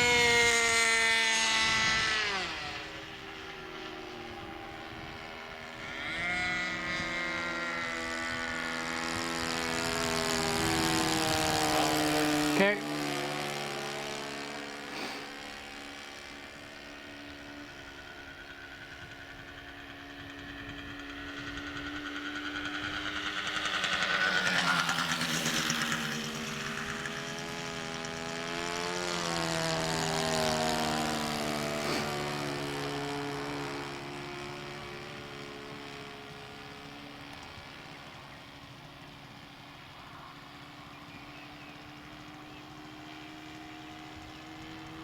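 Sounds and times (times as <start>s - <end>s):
model plane motor droning: 0.0s - 45.0s.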